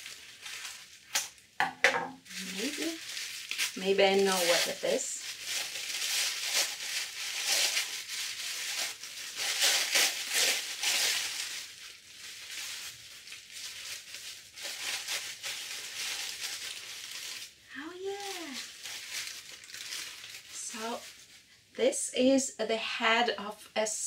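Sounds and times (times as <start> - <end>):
tissue paper rustling: 0.0 - 1.2, 2.2 - 21.5.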